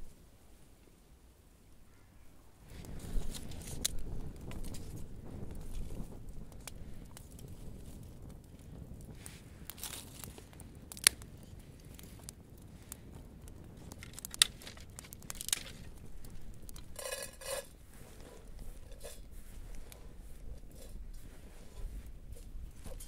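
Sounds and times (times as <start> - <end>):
campfire crackling and popping: 2.6 - 23.0
dry twigs rustling: 2.6 - 23.0.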